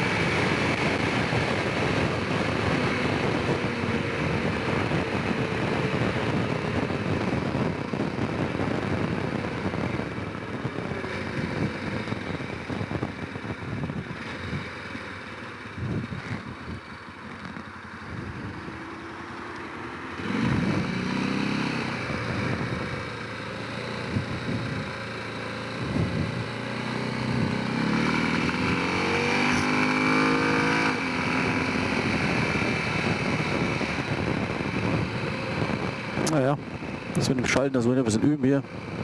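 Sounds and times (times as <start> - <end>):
quad engine accelerating: 0.0 - 39.0.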